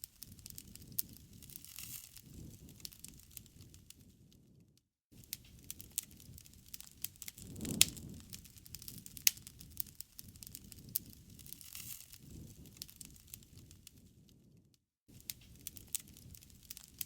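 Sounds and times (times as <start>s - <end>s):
sharp pops of fire: 0.0s - 4.4s, 5.2s - 17.0s
wood fire crackling: 0.0s - 17.0s.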